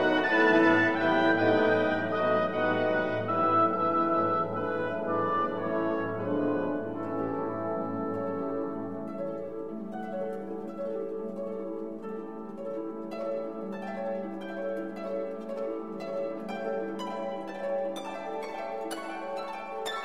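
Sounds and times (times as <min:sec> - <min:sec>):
plucked harp-like notes: 0:00.0 - 0:20.0.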